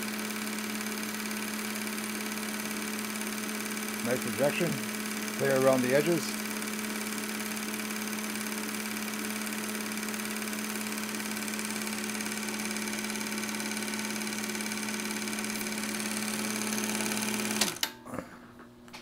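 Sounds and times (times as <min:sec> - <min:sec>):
film projector running: 0:00.0 - 0:18.0.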